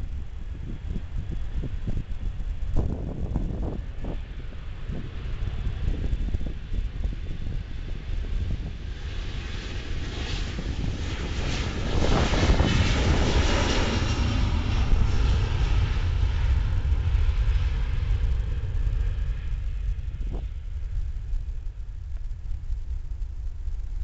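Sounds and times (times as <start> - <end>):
jet engine roar with whine: 0.0 - 24.0.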